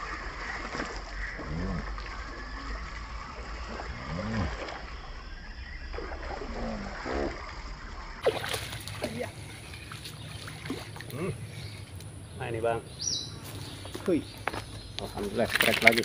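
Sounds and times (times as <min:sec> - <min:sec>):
high chorus of swamp creatures: 0:00.0 - 0:13.4
low croaking calls: 0:00.0 - 0:16.0.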